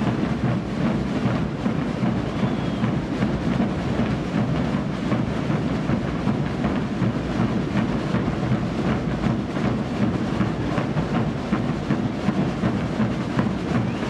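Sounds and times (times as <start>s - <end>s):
bass drums rolling rumble: 0.0s - 14.0s.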